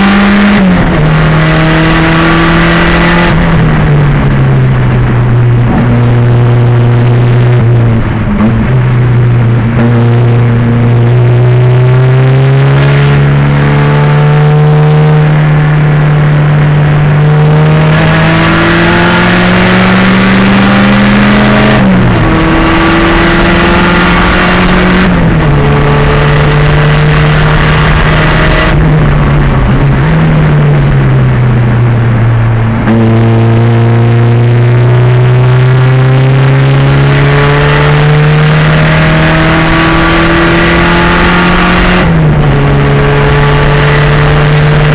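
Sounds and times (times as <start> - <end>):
race car engine under load: 0.0 - 44.9.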